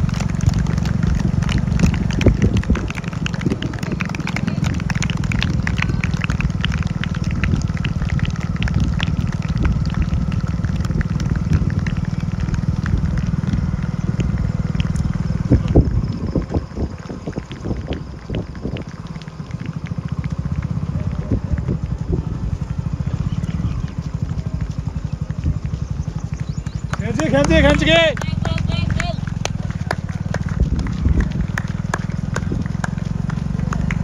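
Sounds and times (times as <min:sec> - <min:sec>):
runners' footsteps on asphalt: 0:00.0 - 0:34.0
vehicle engine running: 0:00.0 - 0:34.0.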